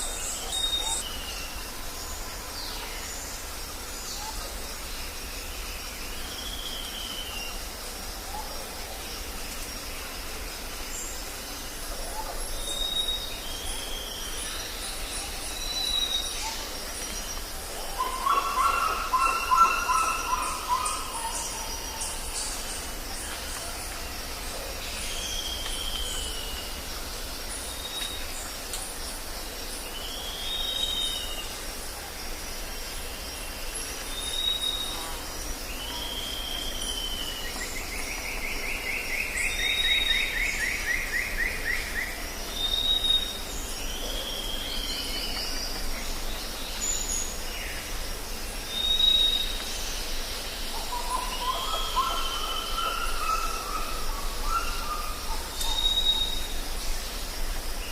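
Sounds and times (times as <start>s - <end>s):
high insect drone: 0.0s - 57.9s.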